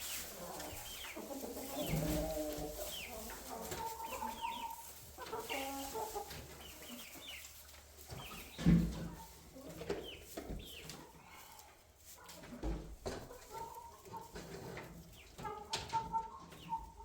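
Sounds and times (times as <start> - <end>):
chickens clucking: 0.0 - 17.0
chicks peeping: 0.0 - 17.0.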